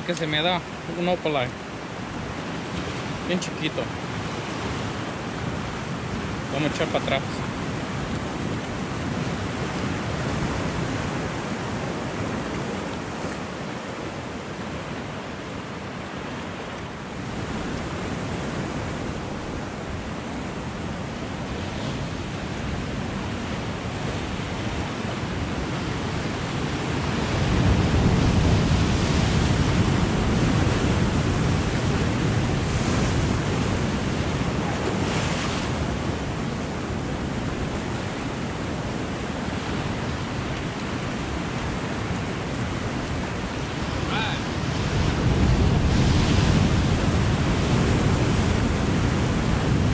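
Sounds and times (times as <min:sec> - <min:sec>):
ocean surf breaking over rocks: 0:00.0 - 0:49.9.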